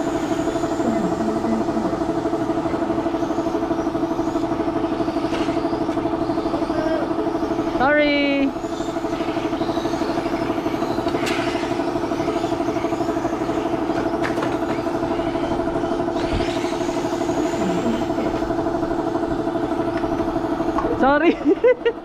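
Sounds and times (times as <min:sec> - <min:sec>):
mechanical drone with pulsing flutter: 0:00.0 - 0:22.0.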